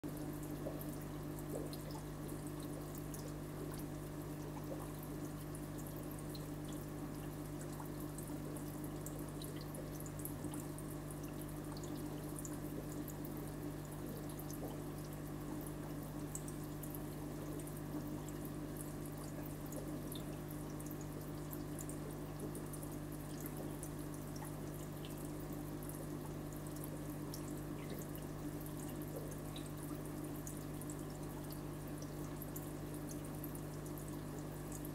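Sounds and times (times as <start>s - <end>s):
aquarium water trickling: 0.0s - 34.9s.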